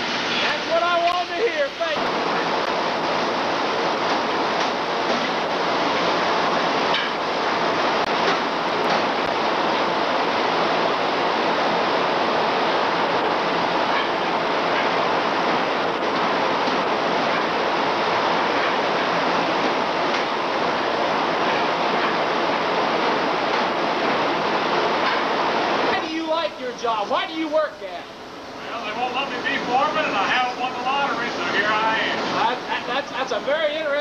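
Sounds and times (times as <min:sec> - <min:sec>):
factory machinery running: 0:00.0 - 0:34.0.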